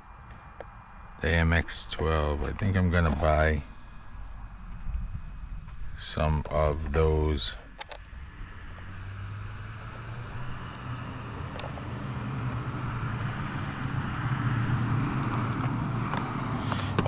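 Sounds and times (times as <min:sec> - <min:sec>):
vehicle engine hum and tyre noise: 0:00.0 - 0:17.0.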